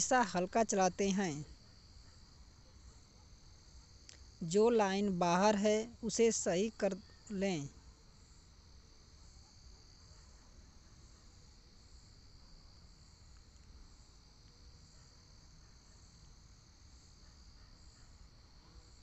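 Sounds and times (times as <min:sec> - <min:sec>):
faint high-pitched chirring: 0:00.0 - 0:19.0.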